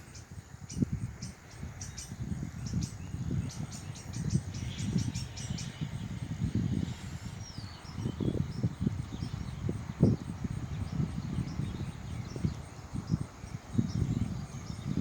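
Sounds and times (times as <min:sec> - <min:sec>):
birds chirping: 0:00.0 - 0:15.0
wind rumble on microphone: 0:00.0 - 0:15.0.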